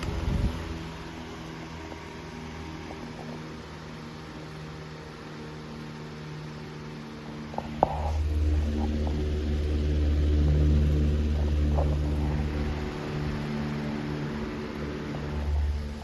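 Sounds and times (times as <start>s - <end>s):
table fan running: 0.0s - 16.0s.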